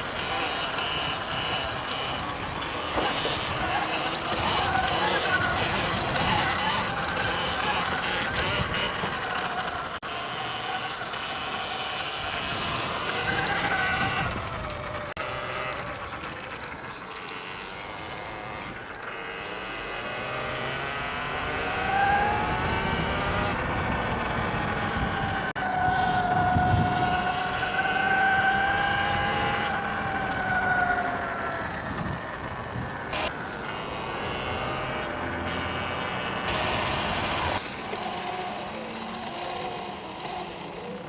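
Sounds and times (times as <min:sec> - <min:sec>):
electric motorbike motors whining: 0:00.0 - 0:41.0.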